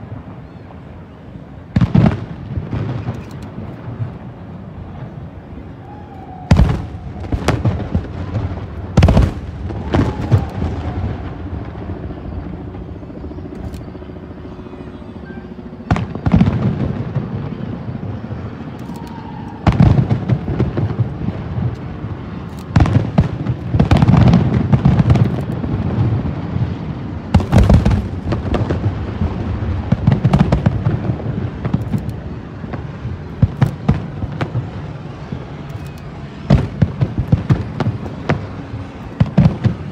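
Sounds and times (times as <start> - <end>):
low rumble of echoing reports: 0.0 - 39.9
fireworks booming: 1.7 - 12.8, 15.8 - 18.6, 19.6 - 39.9.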